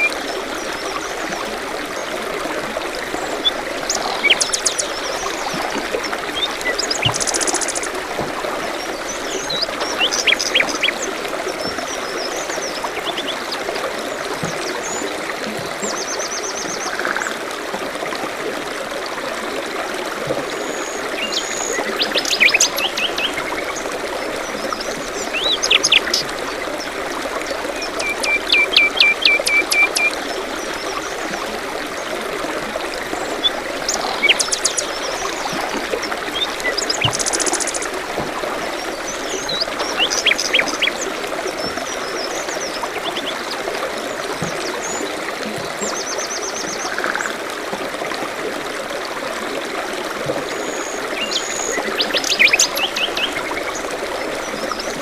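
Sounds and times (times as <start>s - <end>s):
stream water running: 0.0s - 55.0s.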